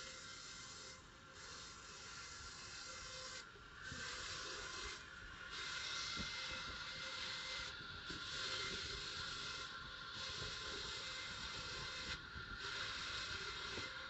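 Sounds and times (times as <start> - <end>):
band saw cutting wood: 0.0 - 14.0.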